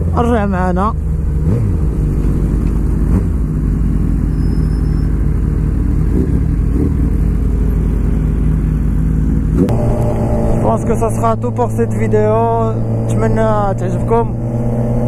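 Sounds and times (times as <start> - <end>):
motorcycle engine idling: 0.0 - 13.7.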